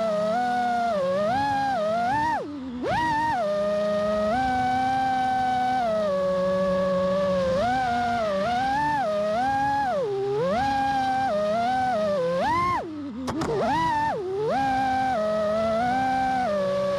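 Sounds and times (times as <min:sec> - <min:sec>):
quadcopter motors whining: 0:00.0 - 0:16.9.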